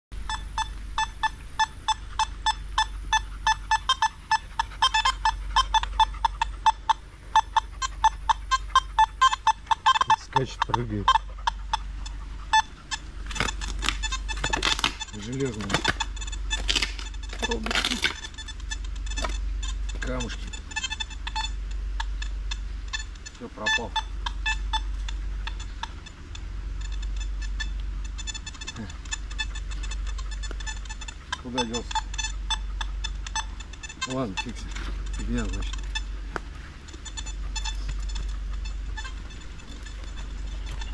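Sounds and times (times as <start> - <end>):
metal detector beeping: 0.1 - 40.9.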